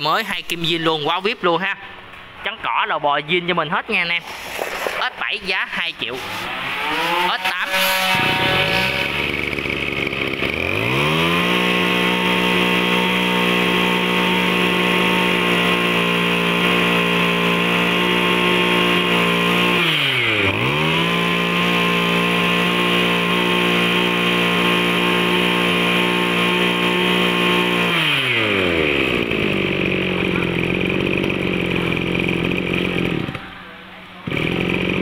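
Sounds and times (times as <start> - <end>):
brush cutter engine revving: 4.0 - 35.0.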